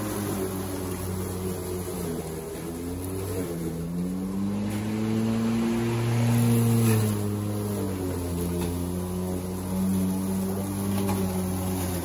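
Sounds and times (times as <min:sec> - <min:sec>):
electric lawnmower running: 0:00.0 - 0:12.0.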